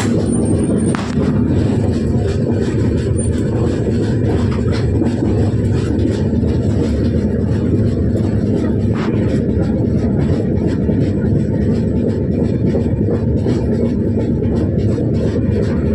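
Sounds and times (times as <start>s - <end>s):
train rumbling on rails: 0.0s - 15.9s.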